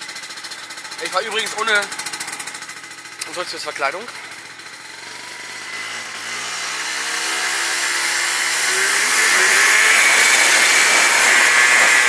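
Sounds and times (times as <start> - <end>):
two-stroke scooter accelerating: 0.0 - 12.0.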